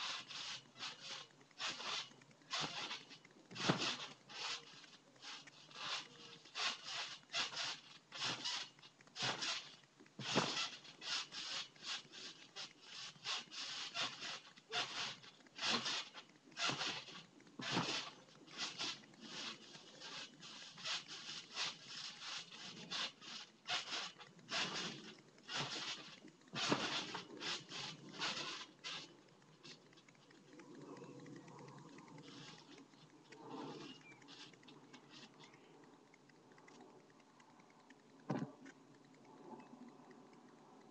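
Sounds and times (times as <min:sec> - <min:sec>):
short scraping noises: 0:00.0 - 0:30.6, 0:31.8 - 0:35.5.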